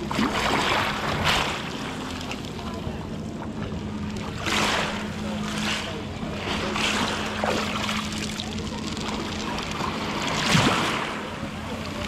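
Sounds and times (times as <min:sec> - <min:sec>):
waves washing over pebbles: 0:00.0 - 0:02.4, 0:04.2 - 0:12.0
steady low hum: 0:00.0 - 0:12.0.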